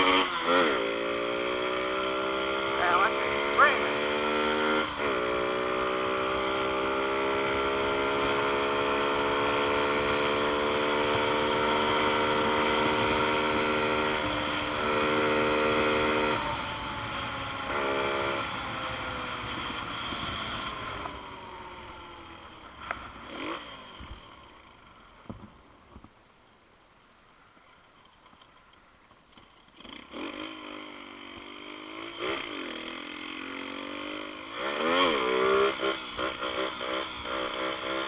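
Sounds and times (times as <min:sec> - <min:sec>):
motorbike engine at high revs: 0:00.0 - 0:25.5, 0:29.3 - 0:38.0.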